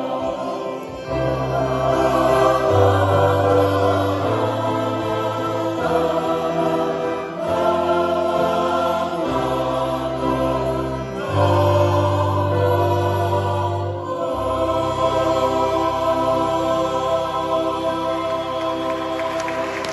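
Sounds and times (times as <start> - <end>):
bandoneon: 0.0 - 17.1
mixed choir singing: 0.0 - 19.9.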